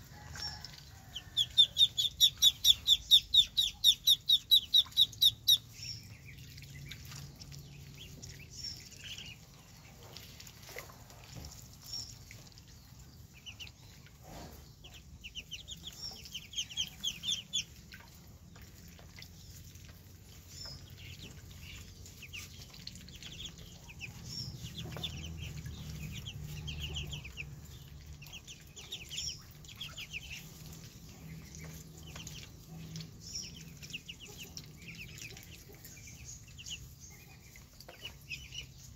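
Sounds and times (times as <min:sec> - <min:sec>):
water splashing: 0:00.0 - 0:38.9
ducklings peeping: 0:00.3 - 0:38.9.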